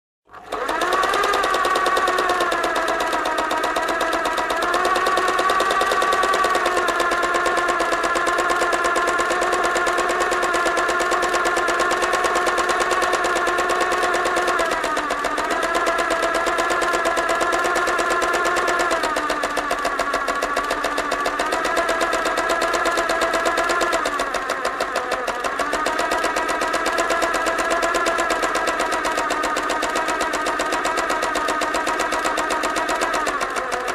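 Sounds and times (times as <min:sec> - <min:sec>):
sewing machine running: 0:00.3 - 0:33.9.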